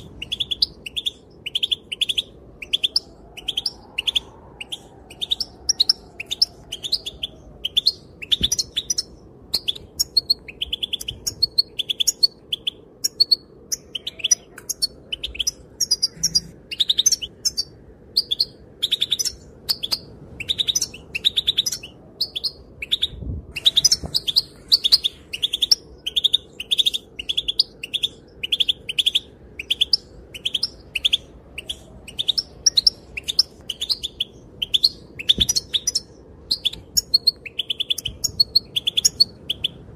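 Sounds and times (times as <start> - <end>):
goldfinch chirping: 5.1 - 39.7.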